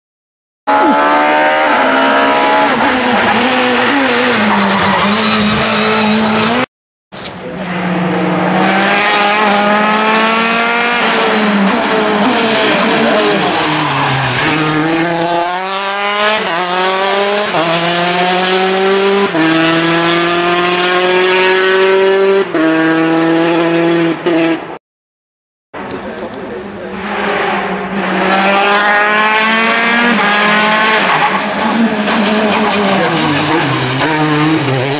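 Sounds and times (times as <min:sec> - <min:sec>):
rally car engine revving: 0:00.7 - 0:06.7, 0:07.4 - 0:24.8, 0:25.8 - 0:34.9.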